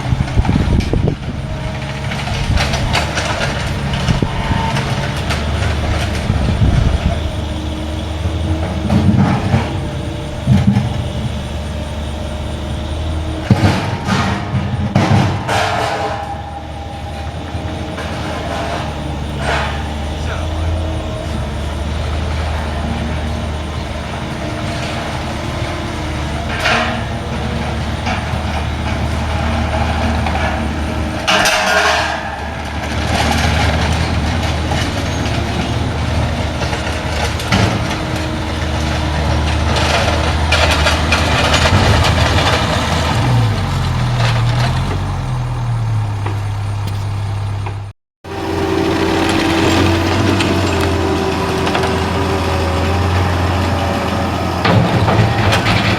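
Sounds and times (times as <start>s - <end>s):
heavy machinery engine running: 0.0s - 55.9s.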